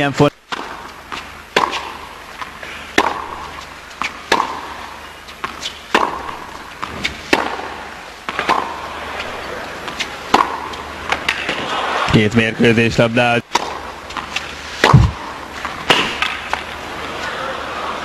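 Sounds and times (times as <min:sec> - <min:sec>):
tennis ball hit by rackets: 0:00.5 - 0:12.1, 0:13.5 - 0:16.7.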